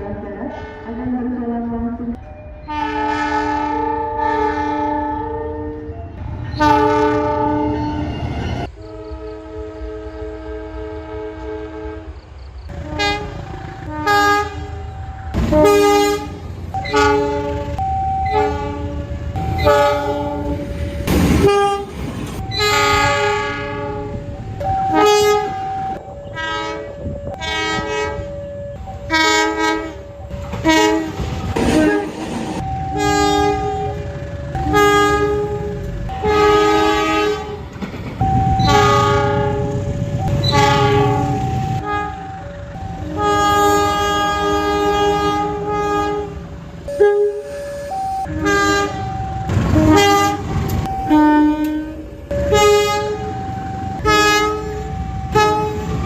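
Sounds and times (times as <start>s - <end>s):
moving train rumble: 0.0s - 56.0s
train horn blasts: 2.6s - 5.9s, 6.5s - 20.7s, 21.4s - 28.3s, 29.1s - 30.0s, 30.6s - 37.7s, 38.5s - 42.3s, 43.0s - 47.6s, 48.2s - 53.4s, 54.0s - 56.0s.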